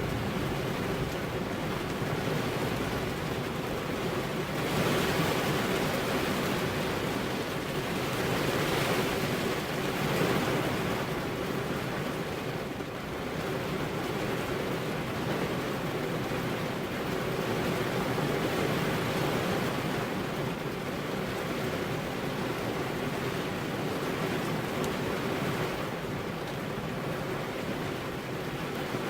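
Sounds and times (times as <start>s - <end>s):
rain on car windows: 0.0s - 29.0s.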